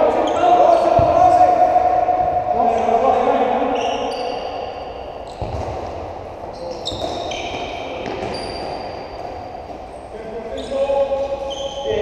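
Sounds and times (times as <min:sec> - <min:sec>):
trainers squeaking on hall floor: 0:00.0 - 0:01.7, 0:02.6 - 0:05.9, 0:06.5 - 0:12.0.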